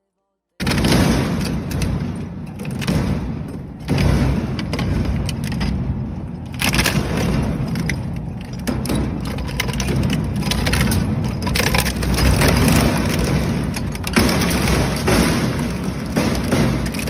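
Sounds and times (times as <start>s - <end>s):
shredder grinding scrap metal: 2.5s - 17.0s.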